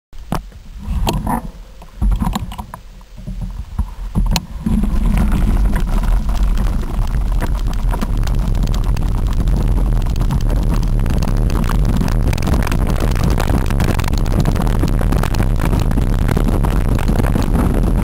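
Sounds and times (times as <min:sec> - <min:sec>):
wind rumble on microphone: 0:00.2 - 0:18.0
bike rattling over gravel: 0:03.6 - 0:18.0.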